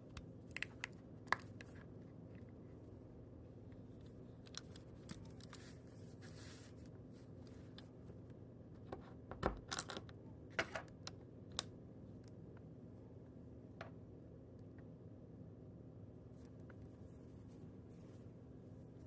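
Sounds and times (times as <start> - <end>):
steady low hum: 0.0 - 9.4, 10.0 - 19.0.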